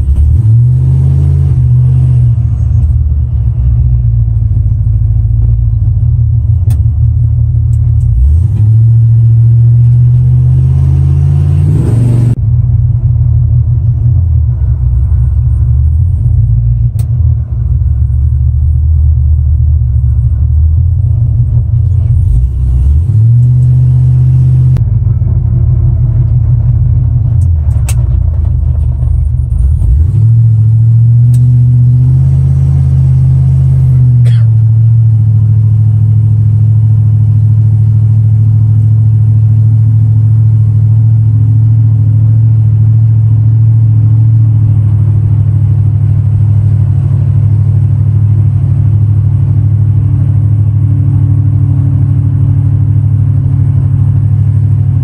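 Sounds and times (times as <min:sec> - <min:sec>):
truck engine low rumble: 0:00.0 - 0:55.0.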